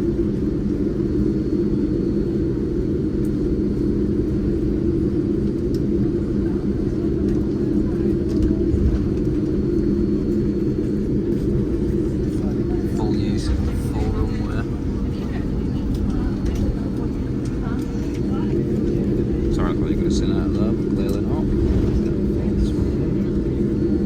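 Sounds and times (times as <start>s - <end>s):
aircraft cabin rumble: 0.0s - 24.0s
low hums: 2.2s - 24.0s.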